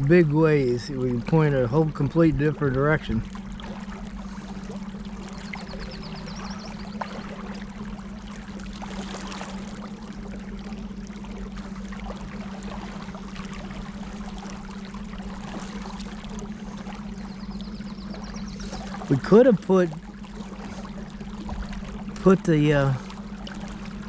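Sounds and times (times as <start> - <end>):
electric motors humming: 0.0 - 24.0
water trickling and rushing: 0.0 - 24.0.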